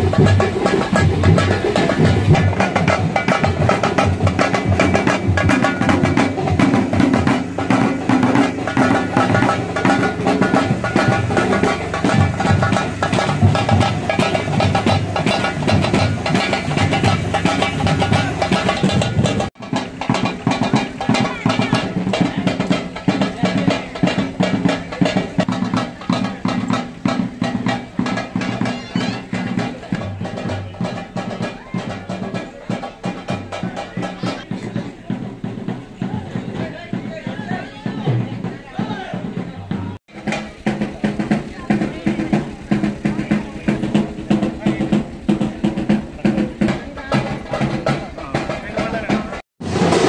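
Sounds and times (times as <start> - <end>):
drums beaten with sticks: 0.0 - 50.0.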